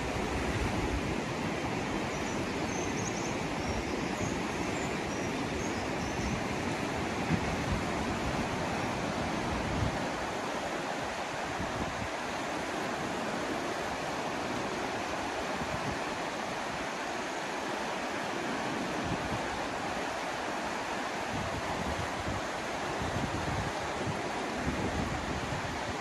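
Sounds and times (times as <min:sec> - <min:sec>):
river rushing over stones: 0:00.0 - 0:26.0.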